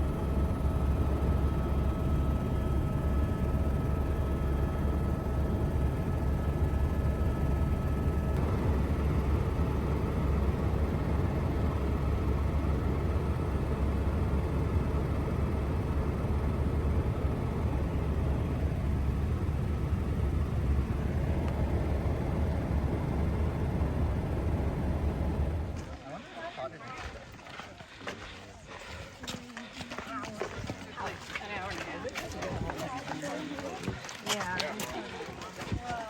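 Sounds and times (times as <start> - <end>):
aircraft rumbling in flight: 0.0 - 36.0.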